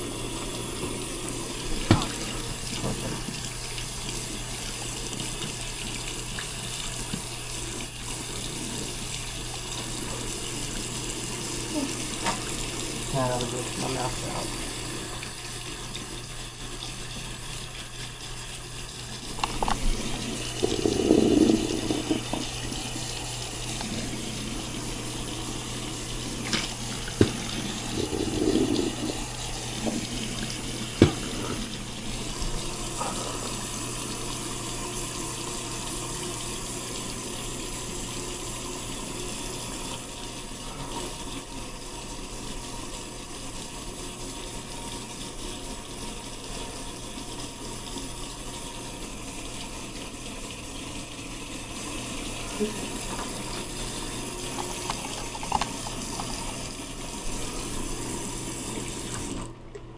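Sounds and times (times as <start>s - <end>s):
water running: 0.0s - 59.9s.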